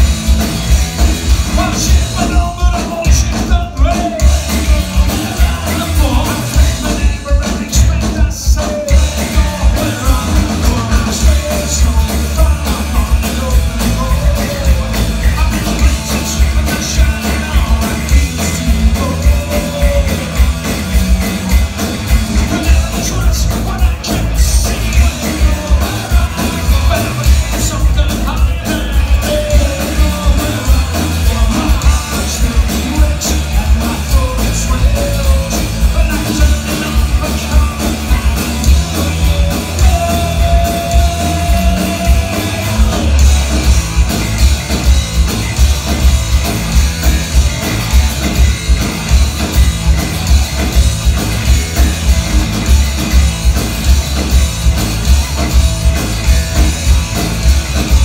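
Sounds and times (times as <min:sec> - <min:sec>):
bass guitar: 0:00.0 - 0:58.0
distorted electric guitars: 0:00.0 - 0:58.0
driving drum beat: 0:00.0 - 0:58.0.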